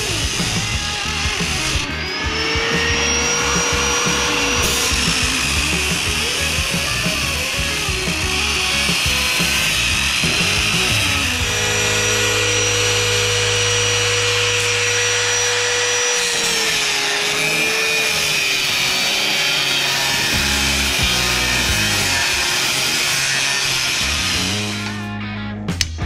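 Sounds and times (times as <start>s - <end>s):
background music: 0.0s - 16.1s, 19.8s - 26.0s
angle grinder cutting metal: 0.0s - 25.2s.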